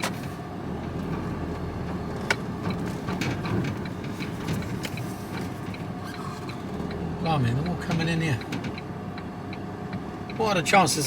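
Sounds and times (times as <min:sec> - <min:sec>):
road noise: 0:00.0 - 0:11.0
van engine rumbling: 0:00.0 - 0:11.0.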